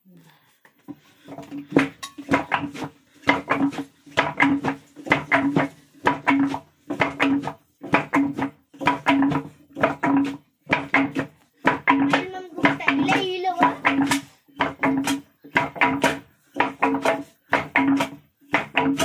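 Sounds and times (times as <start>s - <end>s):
rhythmic knocking on wood: 0.8s - 19.0s.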